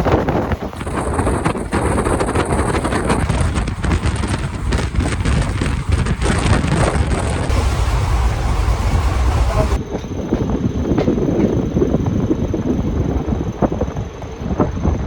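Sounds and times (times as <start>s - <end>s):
wheels clicking on rails: 0.0s - 14.8s
train rumble: 0.0s - 15.0s
wind on microphone: 0.0s - 15.0s.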